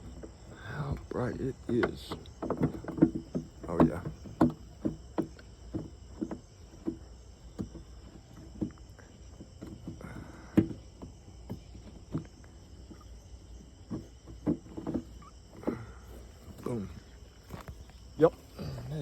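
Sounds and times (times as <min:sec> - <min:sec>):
short knocks and clicks: 0:00.0 - 0:18.4
insects chirping: 0:00.0 - 0:19.0.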